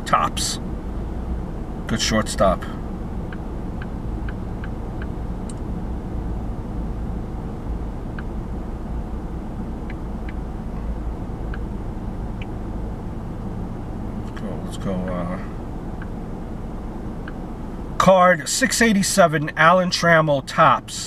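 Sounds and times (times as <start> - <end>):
car cabin drone: 0.0 - 21.0.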